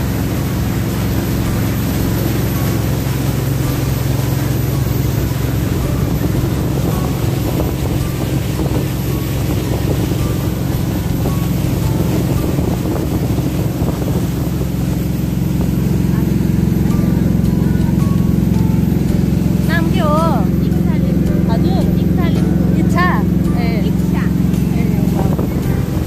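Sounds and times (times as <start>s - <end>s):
boat engine drone: 0.0s - 26.0s
rush of boat through water: 0.0s - 26.0s
wind on microphone: 0.0s - 26.0s.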